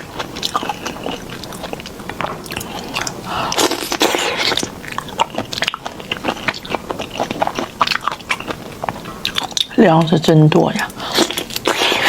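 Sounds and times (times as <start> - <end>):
crunchy chewing: 0.0 - 10.2, 10.8 - 12.0.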